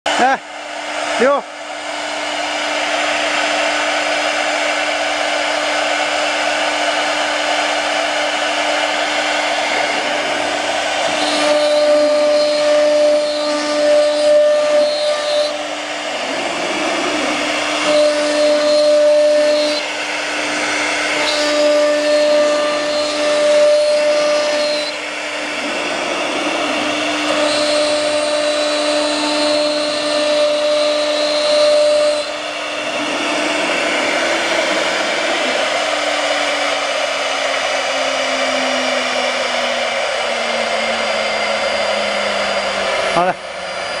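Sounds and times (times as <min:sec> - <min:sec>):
higher machine tone: 0:00.1 - 0:44.0
router spindle whining: 0:00.1 - 0:44.0.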